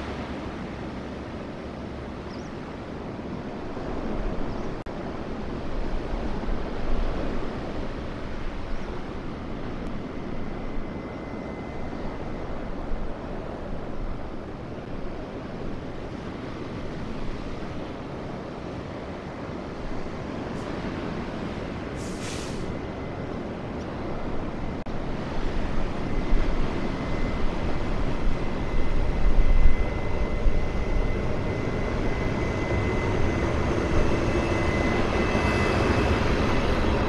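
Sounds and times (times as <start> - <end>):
surf waves washing ashore: 0.0 - 11.1, 12.3 - 37.0
wind buffeting microphone: 0.0 - 37.0.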